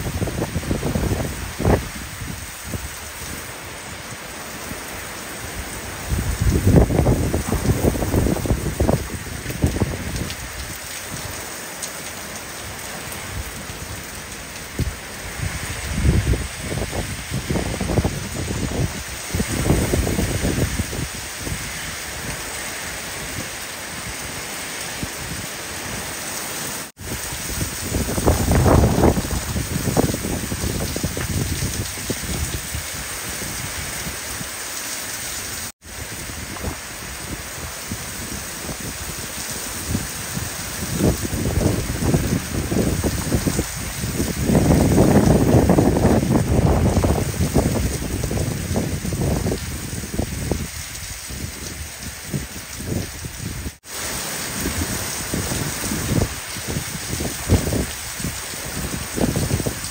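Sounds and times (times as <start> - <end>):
wind buffeting microphone: 0.0 - 3.4, 5.5 - 11.4, 14.6 - 24.3, 27.0 - 34.5, 35.8 - 53.8, 54.5 - 59.9
heavy rain pouring: 0.0 - 59.9.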